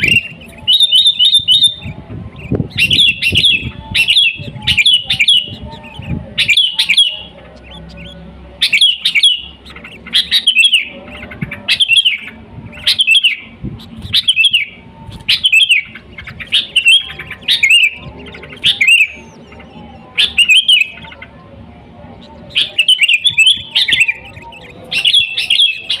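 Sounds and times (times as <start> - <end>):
bulbul singing warbling phrases: 0.0 - 26.0.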